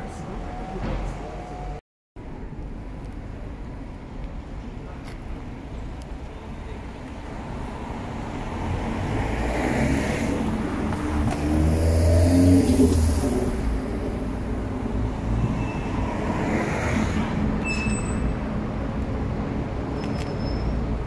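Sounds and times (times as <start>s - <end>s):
engine rumble of traffic: 0.0s - 21.0s.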